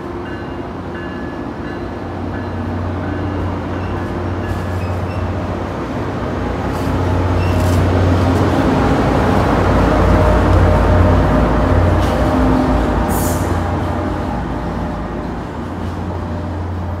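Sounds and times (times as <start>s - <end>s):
diesel train engine drone: 0.0s - 17.0s
train rail running noise: 0.0s - 17.0s.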